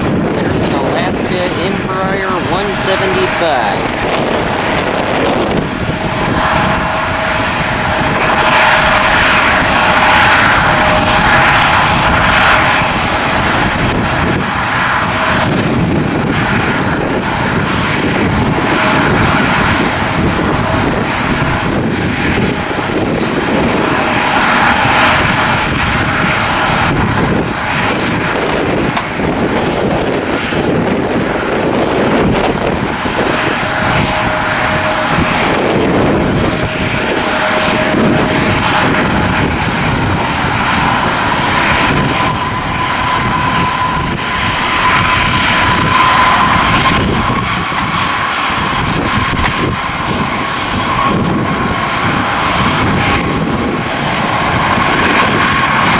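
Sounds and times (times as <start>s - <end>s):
airplane engines roaring: 0.0s - 55.9s.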